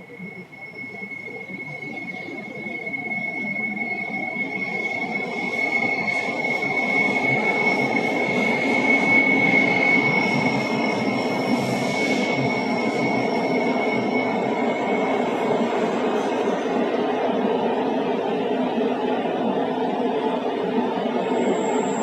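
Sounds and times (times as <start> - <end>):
train wheel squeal: 0.0 - 22.0.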